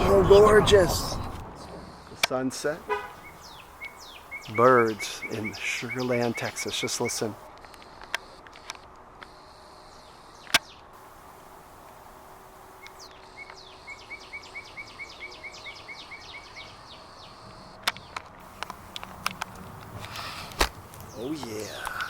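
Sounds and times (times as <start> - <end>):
birds singing high notes: 0.0 - 8.4, 9.4 - 19.0.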